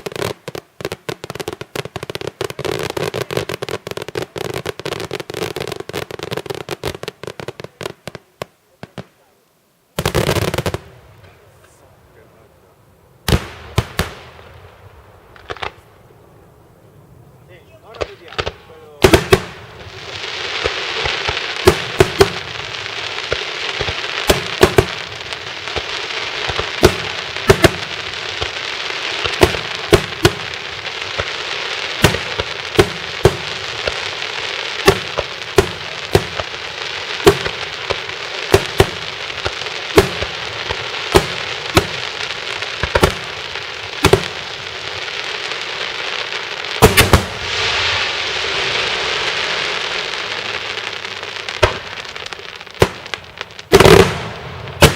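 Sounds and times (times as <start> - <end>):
fireworks bangs: 0.0 - 9.3, 10.0 - 12.5, 13.2 - 54.9
fireworks crackling: 0.0 - 54.9.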